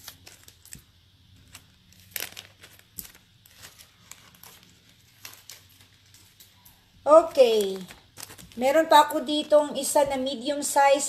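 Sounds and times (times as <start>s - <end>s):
wrapping rustling and crinkling: 0.0s - 10.2s.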